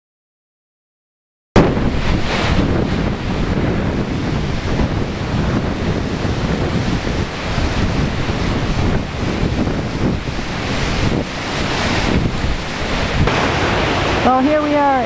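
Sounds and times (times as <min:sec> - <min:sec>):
storm waves breaking: 0:01.6 - 0:15.0
wind buffeting microphone: 0:01.6 - 0:15.0.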